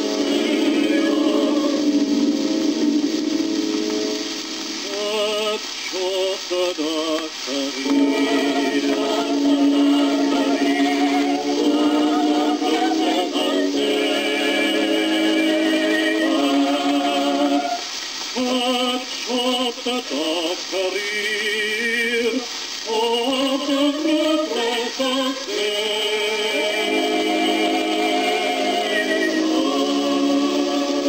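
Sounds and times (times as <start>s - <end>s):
solo voice singing with vibrato: 0.0s - 2.6s, 4.8s - 31.0s
opera chorus singing: 0.0s - 3.4s, 4.7s - 31.0s
record surface hiss: 0.0s - 31.0s.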